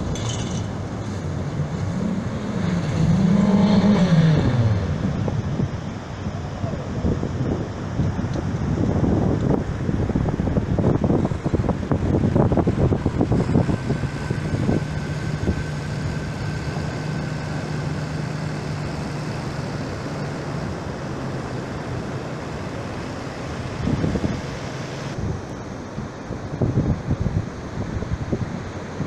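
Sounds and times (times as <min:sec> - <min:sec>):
motorboat engine droning: 0:00.0 - 0:29.0
wind buffeting microphone: 0:00.0 - 0:29.0.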